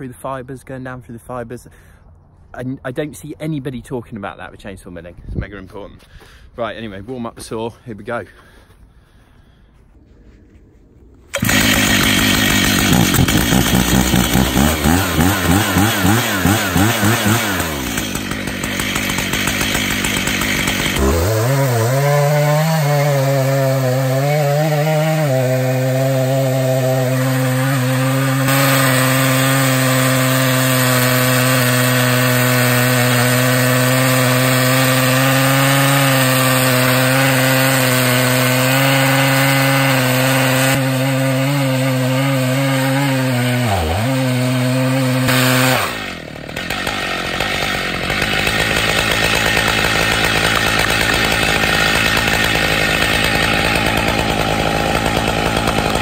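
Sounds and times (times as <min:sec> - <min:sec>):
chainsaw cutting log: 0:11.2 - 0:56.0.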